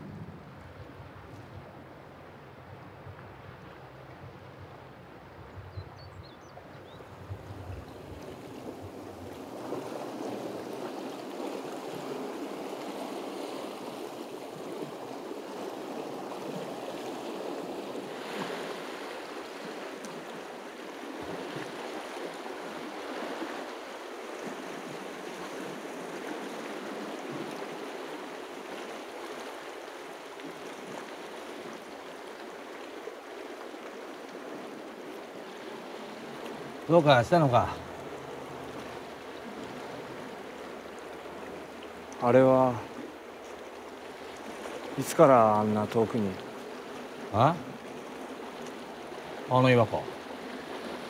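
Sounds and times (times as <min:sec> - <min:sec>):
waves washing against rocks: 0:07.9 - 0:51.0.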